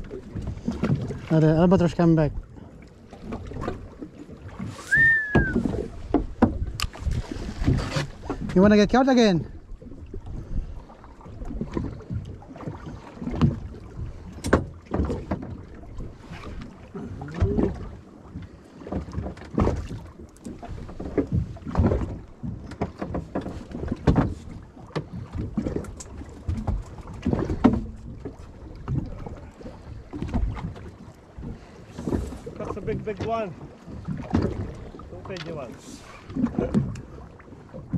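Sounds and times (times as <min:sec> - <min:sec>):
waves slapping against boat hull: 0:00.0 - 0:37.9.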